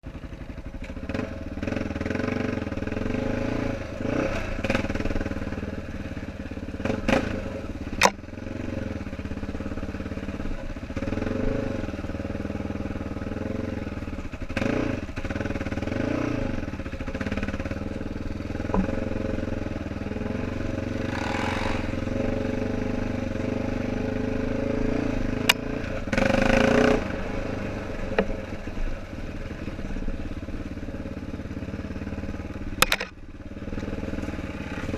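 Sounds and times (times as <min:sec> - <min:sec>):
atv engine running: 0:00.0 - 0:34.9.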